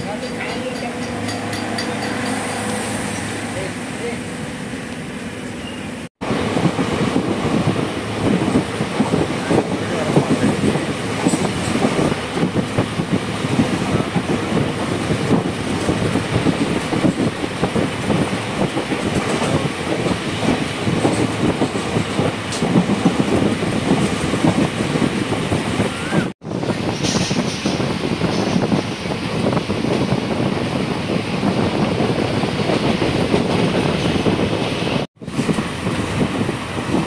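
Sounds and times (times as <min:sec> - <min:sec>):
wheels clattering on rails: 0:00.0 - 0:04.1, 0:04.9 - 0:34.6
train rumbling at speed: 0:00.0 - 0:37.0.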